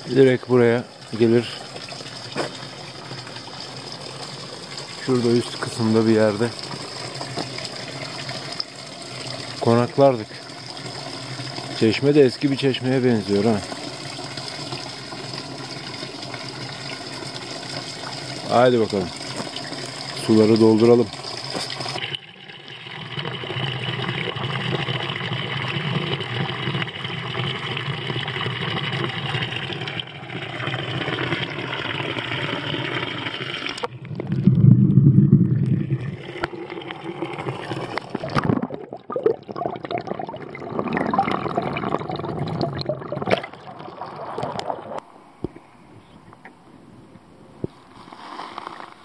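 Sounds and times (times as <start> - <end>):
water pouring into bottles: 0.0 - 45.0.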